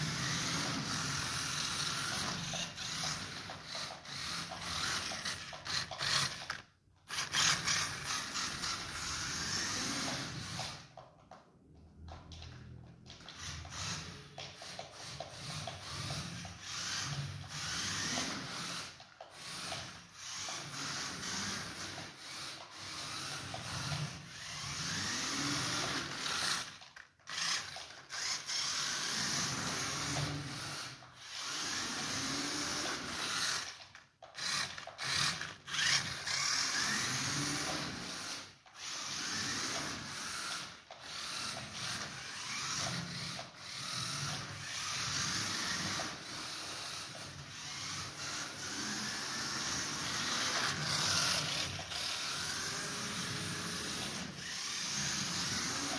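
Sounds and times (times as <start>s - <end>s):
toy car motor whirring and grinding: 0.0s - 55.9s.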